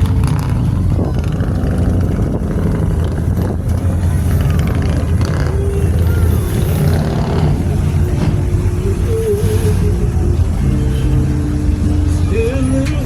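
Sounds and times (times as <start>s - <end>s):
car engines idling: 0.0s - 13.0s
voices: 0.0s - 13.0s.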